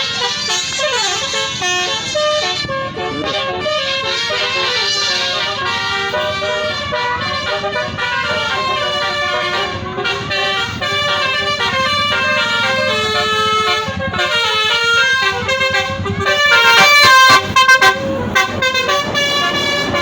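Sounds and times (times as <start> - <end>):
bus horn playing a melody: 0.0 - 20.0.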